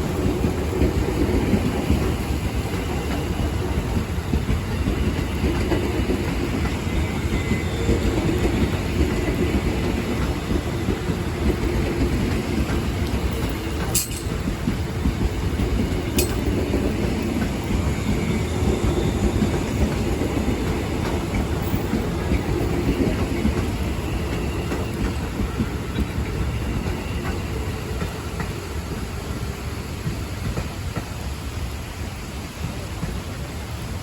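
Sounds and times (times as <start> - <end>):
wheels clicking over rail joints: 0.0 - 29.0
electric train rumbling: 0.0 - 34.0.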